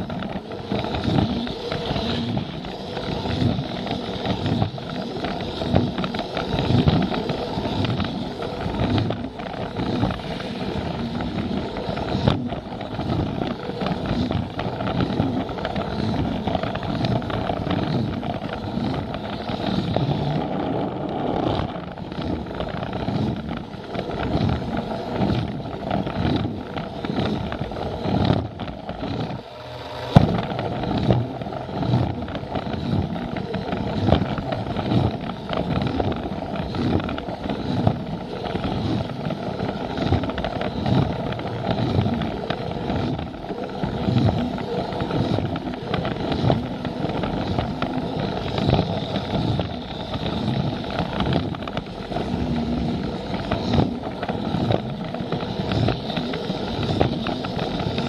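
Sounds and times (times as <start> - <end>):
toy train motor whirring: 0.0 - 58.0
wheels clicking over rail joints: 0.0 - 58.0.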